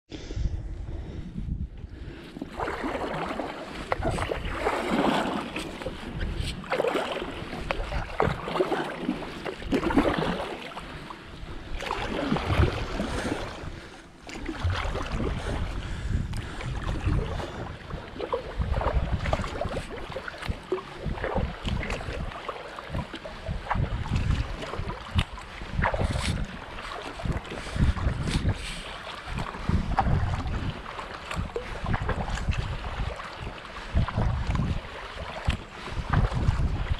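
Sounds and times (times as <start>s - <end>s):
wind buffeting microphone: 0.1s - 36.9s
water splashing along hull: 0.2s - 36.9s
kayak paddle strokes in water: 0.9s - 36.9s.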